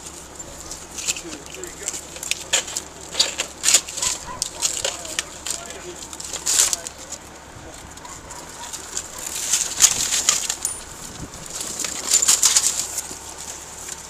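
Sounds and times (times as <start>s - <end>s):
rustling and scraping: 0.0s - 14.0s
steady low hum: 0.0s - 14.0s.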